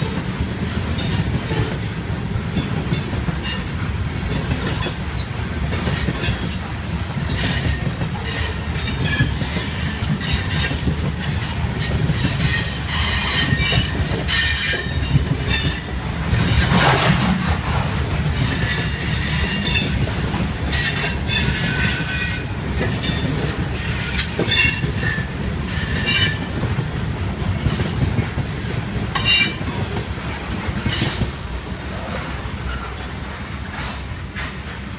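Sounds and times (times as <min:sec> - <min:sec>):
freight train rumbling by: 0:00.0 - 0:34.9.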